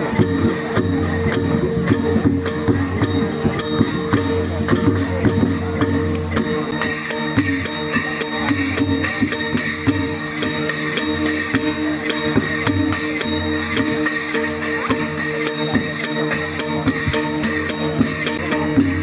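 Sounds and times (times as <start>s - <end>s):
cymbals clashing: 0.0s - 19.0s
low drum: 0.0s - 19.0s.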